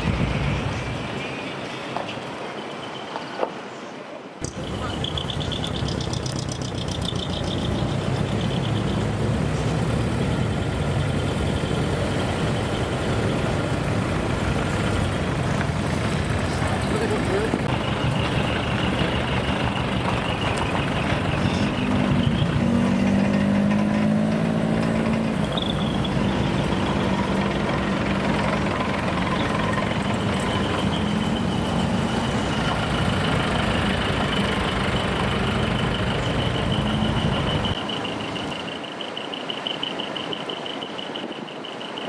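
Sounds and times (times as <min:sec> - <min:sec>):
truck engines droning: 0:04.4 - 0:42.0.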